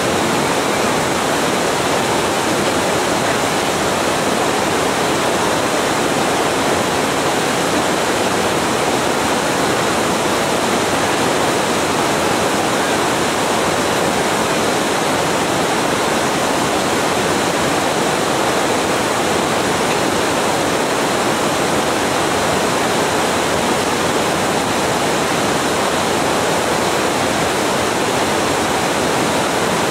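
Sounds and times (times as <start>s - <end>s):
fast-flowing river water: 0.0s - 29.9s.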